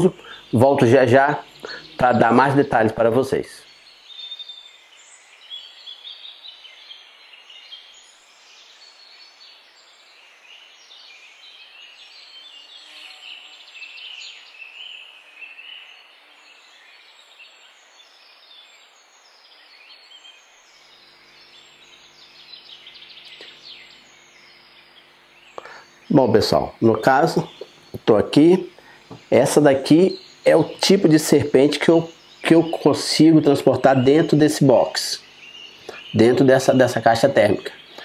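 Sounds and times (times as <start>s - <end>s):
birds chirping and singing: 0.0s - 38.0s.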